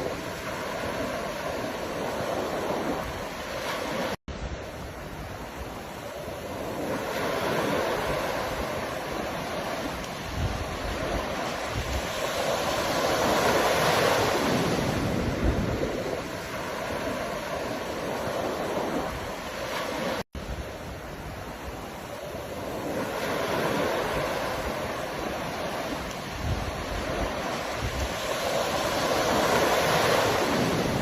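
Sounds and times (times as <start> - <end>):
ocean surf: 0.0 - 31.0.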